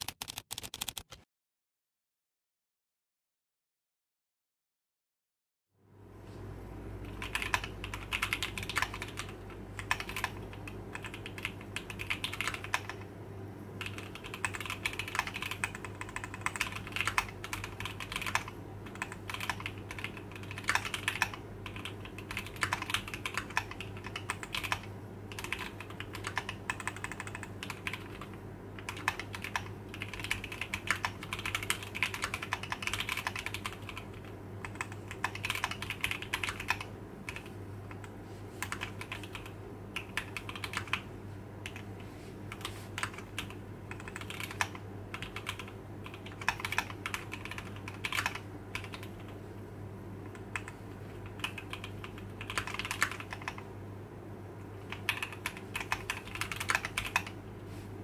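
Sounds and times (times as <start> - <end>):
mechanical keyboard typing: 0.0 - 1.2, 7.0 - 13.1, 13.8 - 41.9, 42.5 - 49.4, 50.2 - 53.7, 54.8 - 57.4
faint low hum: 5.8 - 58.0.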